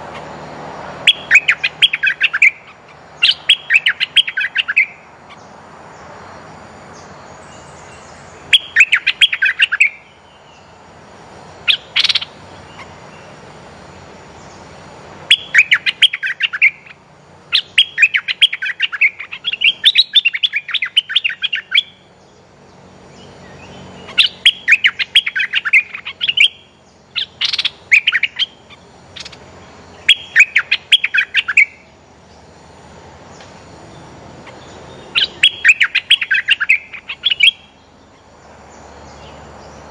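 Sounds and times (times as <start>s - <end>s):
bird chattering calls: 1.0s - 5.6s, 7.0s - 10.8s, 11.6s - 13.5s, 14.4s - 22.5s, 23.1s - 32.0s, 33.3s - 38.3s.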